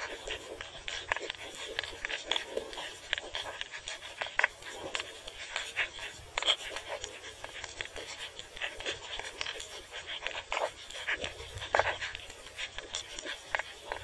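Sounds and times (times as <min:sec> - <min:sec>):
underwater clicking and crackling: 0:00.0 - 0:14.0.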